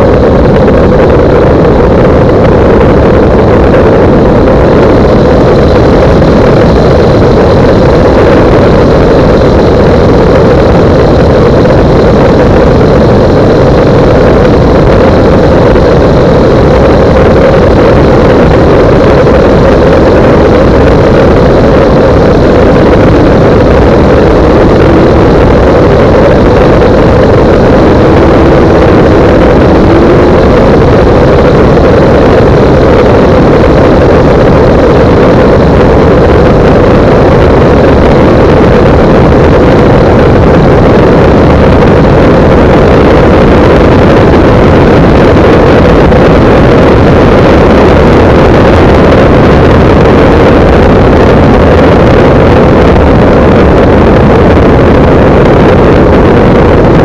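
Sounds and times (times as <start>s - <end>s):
propeller aircraft engine: 0.0s - 57.0s.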